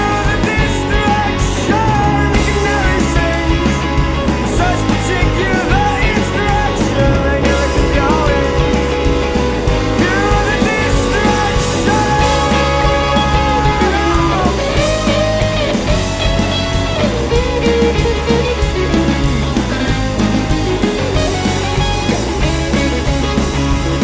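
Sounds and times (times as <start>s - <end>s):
bass guitar: 0.0s - 24.0s
drum beat: 0.0s - 24.0s
rock guitar melody: 0.0s - 24.0s.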